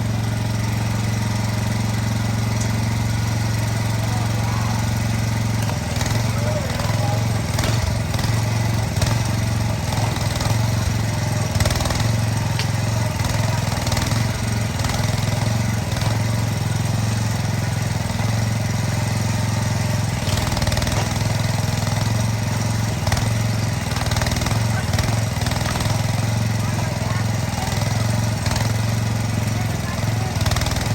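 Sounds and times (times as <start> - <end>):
excavator engine running: 0.0 - 30.9.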